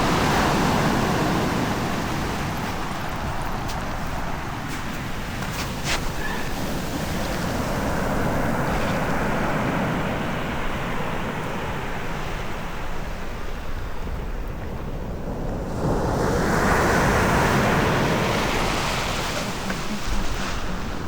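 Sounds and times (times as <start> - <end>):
ocean surf washing: 0.0 - 21.0.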